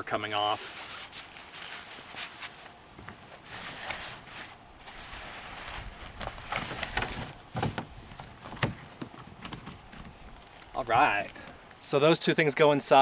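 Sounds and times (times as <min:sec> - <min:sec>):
nylon fabric rustling and scraping: 0:00.0 - 0:10.6.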